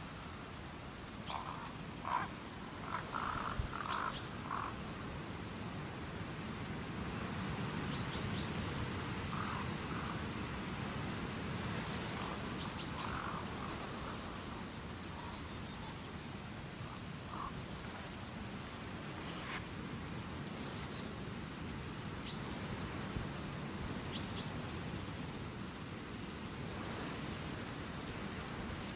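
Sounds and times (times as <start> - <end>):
steady outdoor hiss: 0.0 - 28.9.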